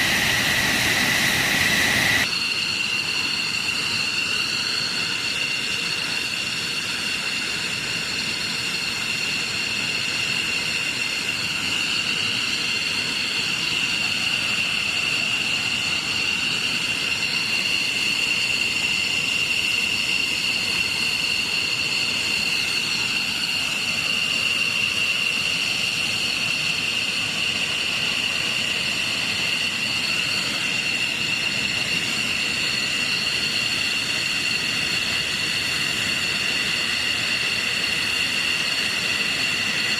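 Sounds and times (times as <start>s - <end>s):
jet engine whining: 0.0s - 39.9s.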